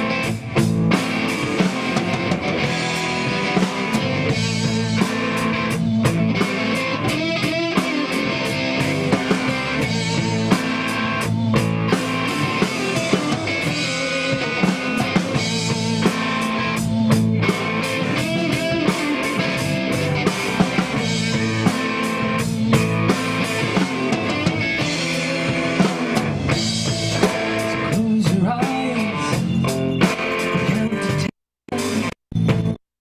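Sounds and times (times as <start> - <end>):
drum kit: 0.0 - 32.8
electric bass: 0.0 - 32.8
electric guitars: 0.0 - 32.8.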